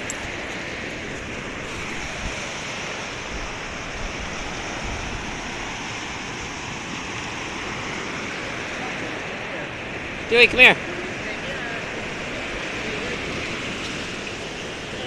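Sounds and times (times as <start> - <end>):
small waves breaking: 0.0 - 15.0
wind rumbling on microphone: 0.0 - 15.0.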